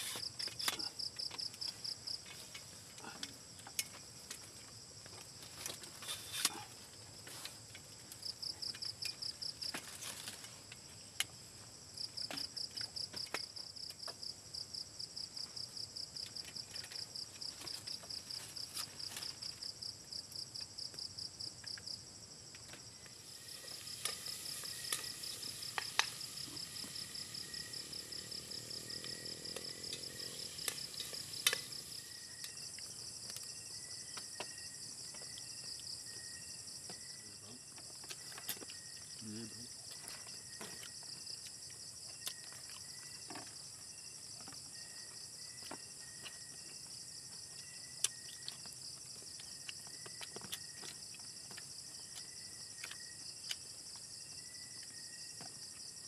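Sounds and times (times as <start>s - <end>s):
night insects trilling: 0.0s - 56.0s.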